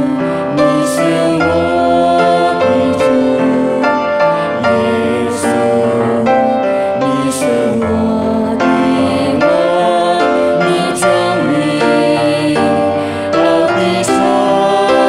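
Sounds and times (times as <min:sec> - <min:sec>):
grand piano accompaniment: 0:00.0 - 0:15.0
woman singing: 0:00.0 - 0:15.0.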